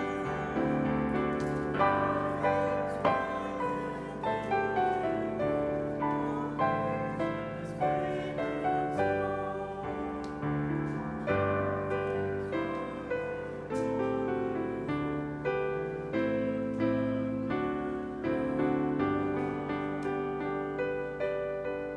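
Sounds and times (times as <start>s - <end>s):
slow gentle piano piece: 0.0s - 21.9s.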